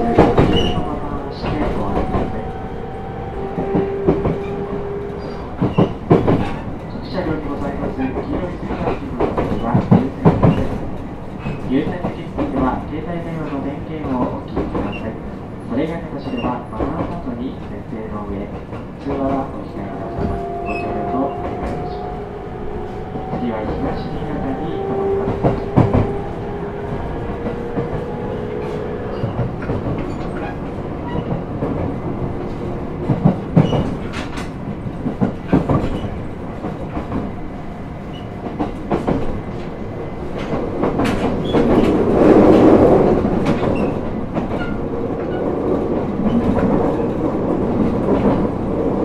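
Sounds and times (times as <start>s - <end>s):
electric train rumble: 0.0s - 49.0s.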